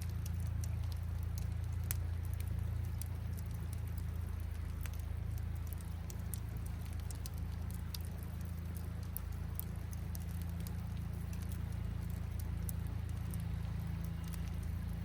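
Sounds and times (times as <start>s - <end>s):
campfire crackling: 0.0s - 15.0s
river water flowing: 0.0s - 15.0s.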